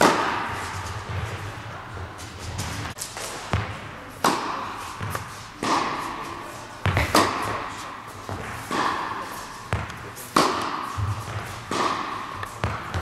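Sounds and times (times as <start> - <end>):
tennis balls bouncing on court: 0.0 - 13.0
tennis balls struck with rackets: 0.0 - 13.0.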